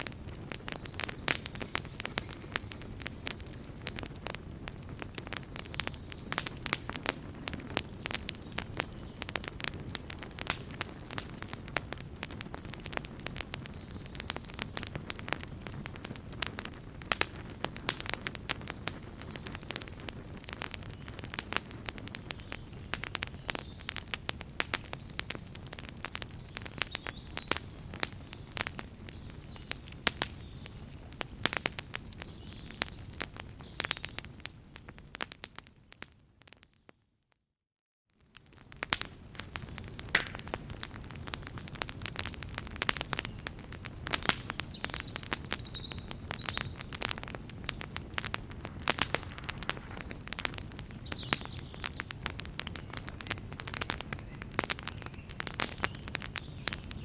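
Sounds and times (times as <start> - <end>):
campfire crackling and popping: 0.0 - 36.9, 38.2 - 57.0.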